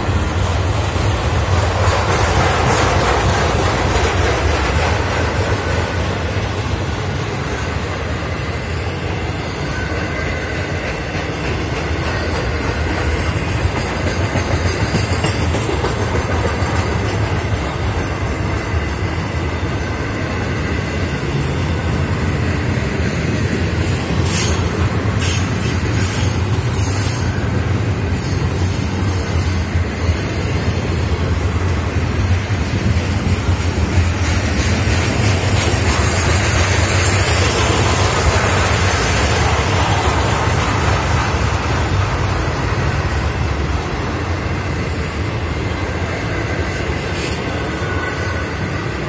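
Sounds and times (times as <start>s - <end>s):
steel wheels rumbling on rails: 0.0s - 49.0s.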